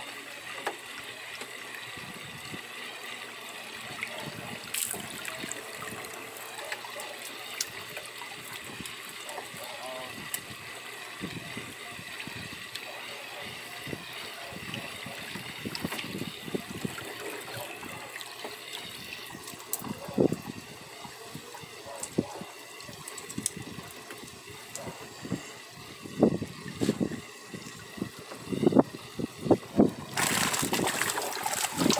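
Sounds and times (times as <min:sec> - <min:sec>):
water splashing and trickling: 0:00.0 - 0:31.9.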